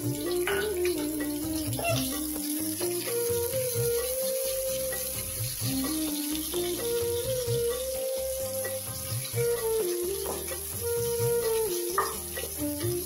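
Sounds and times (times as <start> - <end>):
instrumental music with steady beat: 0.0 - 13.0
onions sizzling in hot oil: 0.0 - 13.0.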